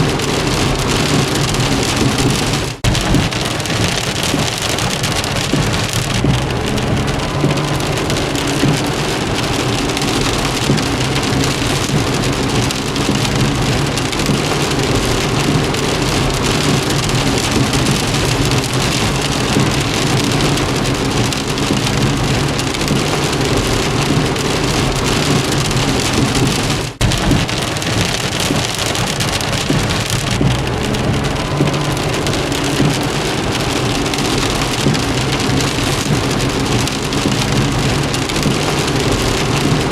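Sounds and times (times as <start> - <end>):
rain drumming on car roof: 0.0 - 39.9.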